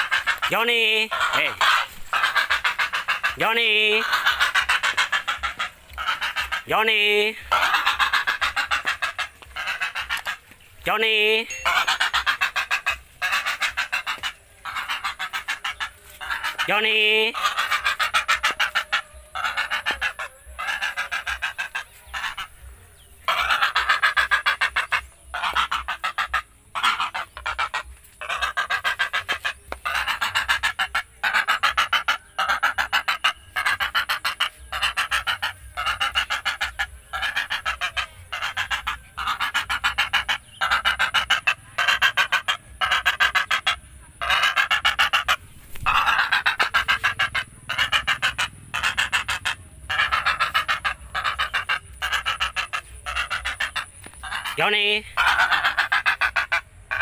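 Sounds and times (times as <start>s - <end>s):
stork rasping honk calls: 0.0s - 57.0s.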